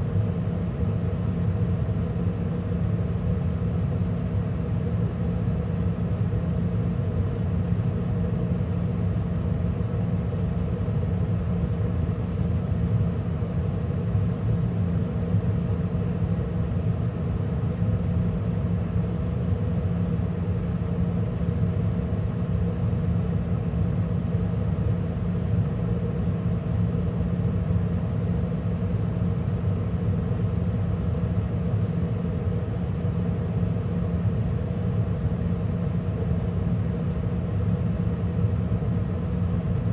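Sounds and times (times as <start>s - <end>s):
gas furnace running: 0.0s - 39.9s.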